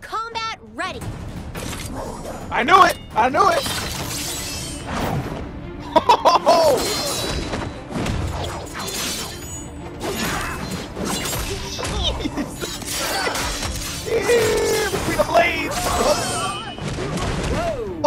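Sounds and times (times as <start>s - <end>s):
fight scene music: 0.2s - 18.0s.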